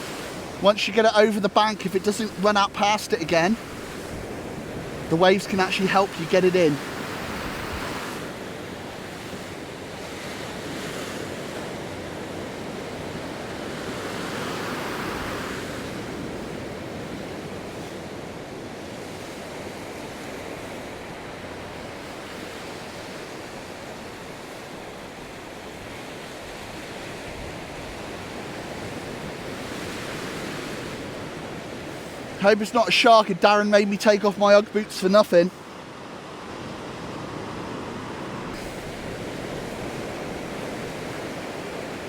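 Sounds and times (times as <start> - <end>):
ocean surf breaking on beach: 0.0 - 42.0.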